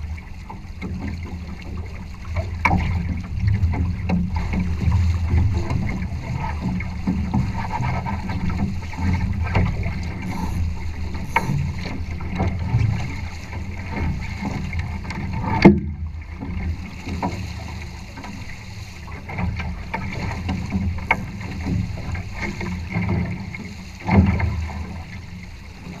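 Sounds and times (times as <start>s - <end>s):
water slapping against boat hull: 0.0s - 26.0s
wind rumble on microphone: 0.0s - 26.0s.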